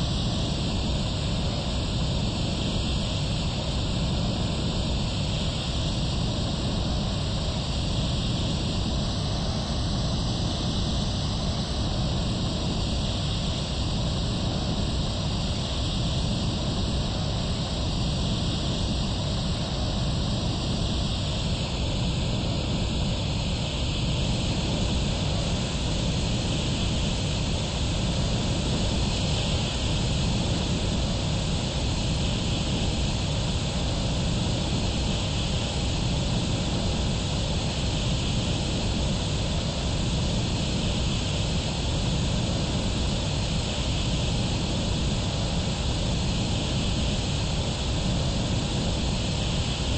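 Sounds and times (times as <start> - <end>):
jet engines and rushing air: 0.0 - 49.9.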